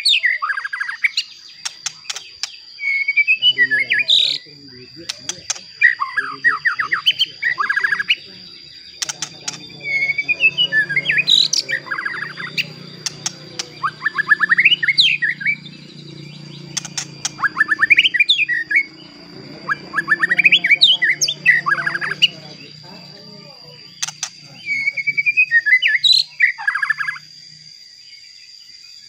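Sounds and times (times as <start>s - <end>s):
songbird singing whistled notes: 0.0s - 29.0s.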